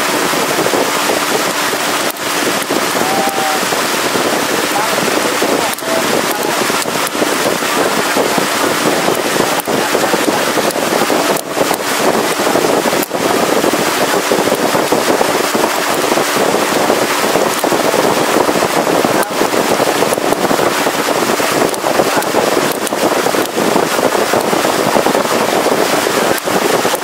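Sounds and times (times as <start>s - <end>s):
boat engine: 0.0s - 27.0s
water rushing past hull: 0.0s - 27.0s
wind buffeting microphone: 0.0s - 27.0s.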